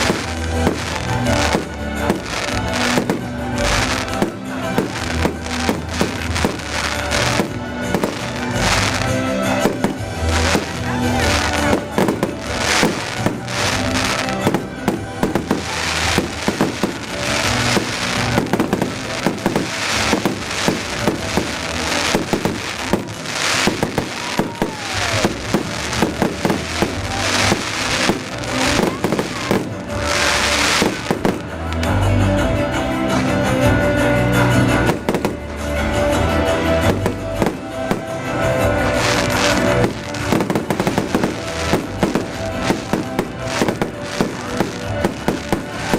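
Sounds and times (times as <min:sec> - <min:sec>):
fireworks bursting and crackling: 0:00.0 - 0:45.9
recorded music: 0:00.0 - 0:45.9.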